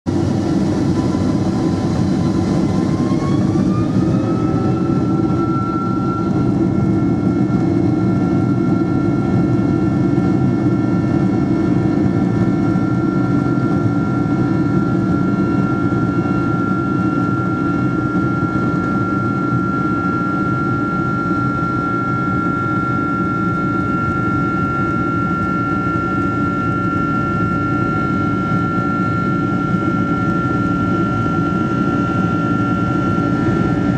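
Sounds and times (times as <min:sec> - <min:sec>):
jet engines roaring in cabin: 0:00.1 - 0:33.9
rising engine whine: 0:00.1 - 0:33.9.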